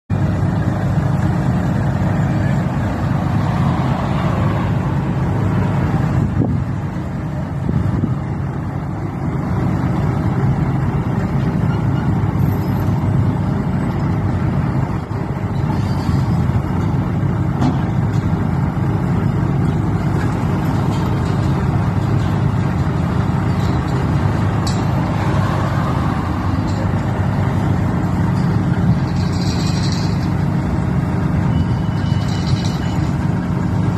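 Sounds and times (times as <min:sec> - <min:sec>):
heavy engine running: 0:00.1 - 0:33.9.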